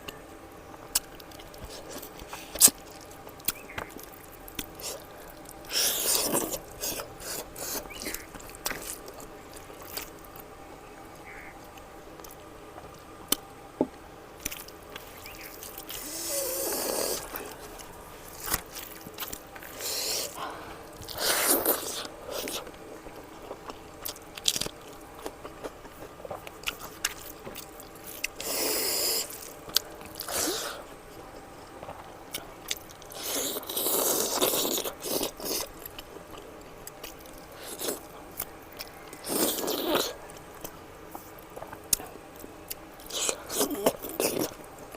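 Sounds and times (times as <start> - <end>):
chewing and mouth smacks: 0.8 - 10.5, 14.4 - 44.9.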